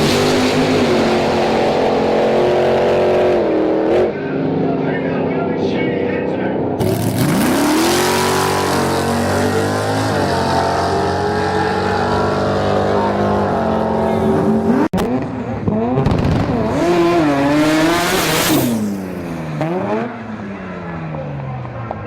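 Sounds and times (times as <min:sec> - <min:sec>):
racing car engines at full throttle: 0:00.0 - 0:22.0.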